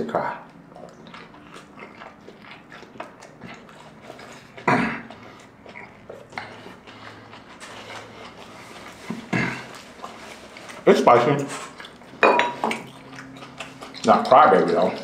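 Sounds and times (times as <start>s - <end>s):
crispy taco chewing: 0.4s - 15.0s.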